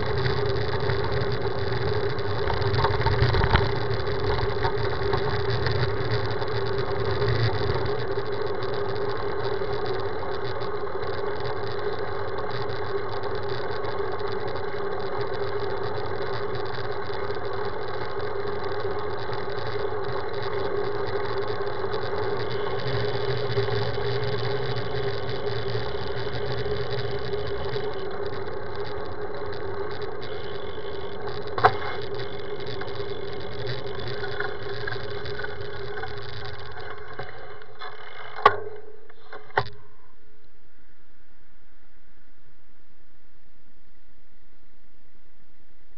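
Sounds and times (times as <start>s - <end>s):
bicycle tyre noise on asphalt: 0.0s - 39.8s.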